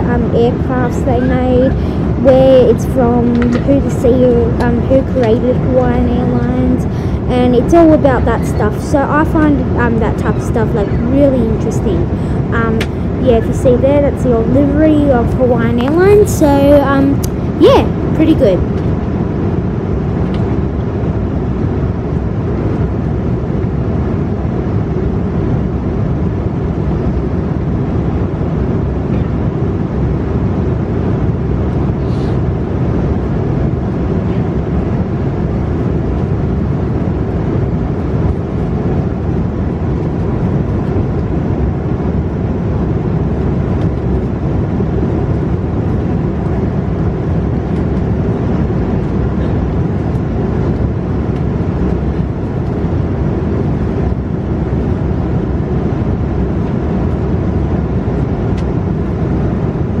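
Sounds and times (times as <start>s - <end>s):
airplane cabin engine roar: 0.0s - 60.0s.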